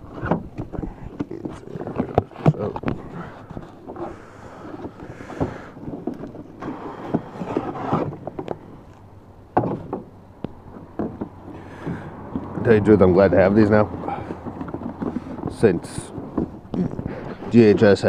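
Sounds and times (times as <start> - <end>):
cardboard rustling and scraping: 0.0 - 18.0.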